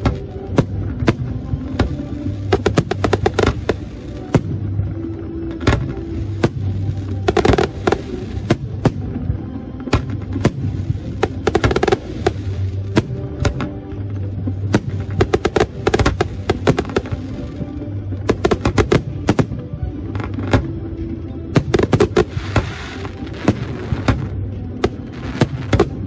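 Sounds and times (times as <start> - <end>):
firework crackling: 0.0 - 26.0
music: 0.0 - 26.0.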